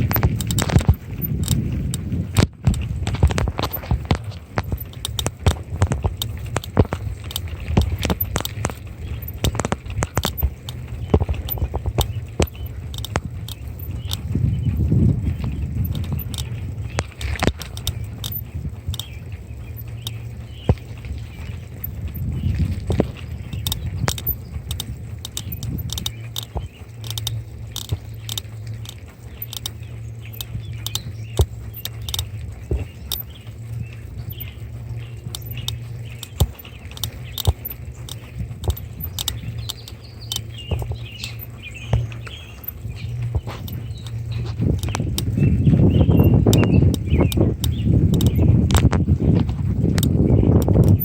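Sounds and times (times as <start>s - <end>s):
bicycle clicks and rattles: 0.0s - 51.0s
wind rumbling on microphone: 0.0s - 51.0s.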